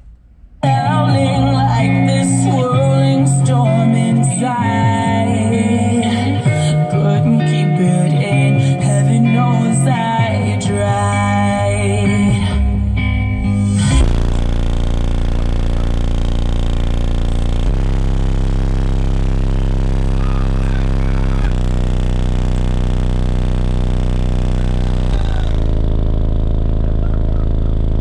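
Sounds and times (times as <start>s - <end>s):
deep subwoofer bass notes: 0.0s - 28.0s.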